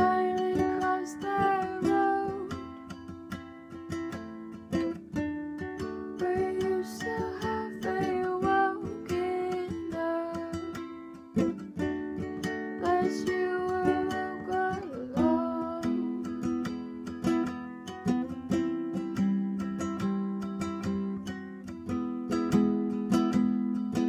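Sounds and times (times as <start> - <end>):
plucked string instrument strumming: 0.0 - 24.0.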